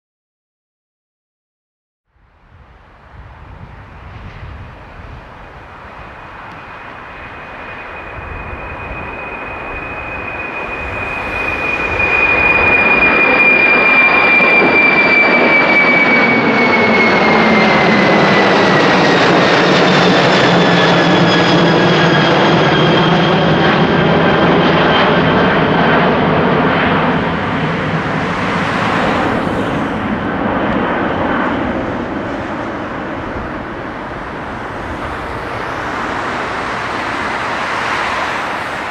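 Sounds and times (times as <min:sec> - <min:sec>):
jet engines whine and rumble: 0:02.2 - 0:38.9.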